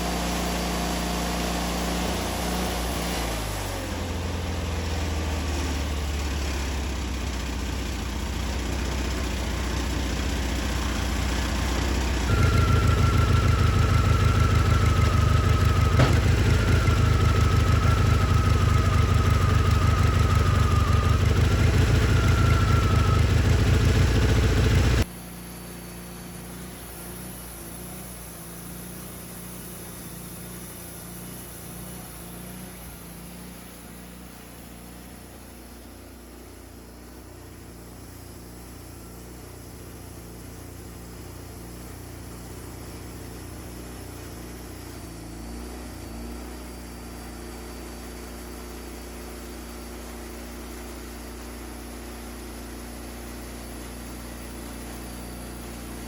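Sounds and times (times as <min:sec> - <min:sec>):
band sawmill running: 0:00.0 - 0:56.0
thin wavering saw whine: 0:00.0 - 0:56.0.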